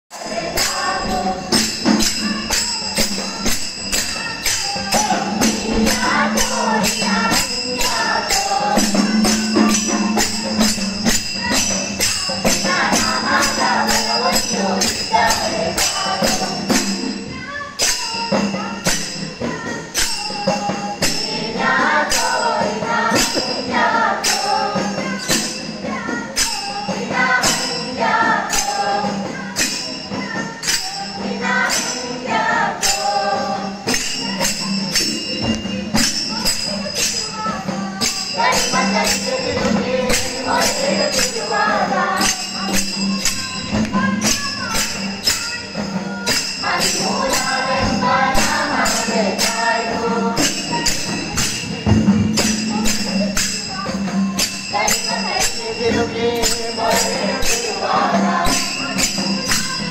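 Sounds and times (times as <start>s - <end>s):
group singing devotional song: 0.1s - 17.2s, 17.8s - 59.9s
hand cymbals clashing: 0.2s - 59.9s.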